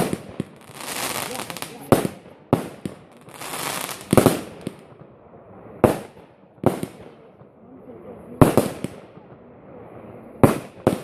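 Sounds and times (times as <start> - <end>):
crackling hiss of fireworks: 0.0 - 11.0
fireworks bangs with echo: 0.0 - 11.0.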